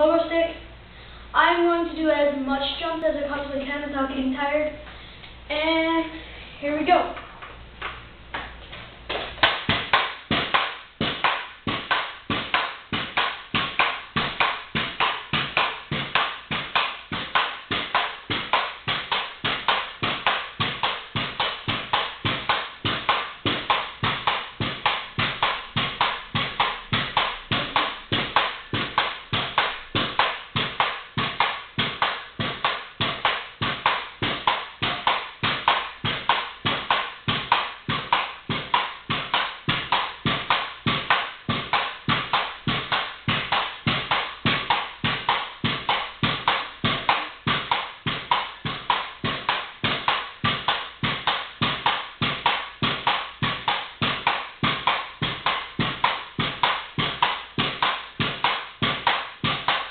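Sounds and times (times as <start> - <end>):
pogo stick thudding on concrete: 6.6 - 59.9.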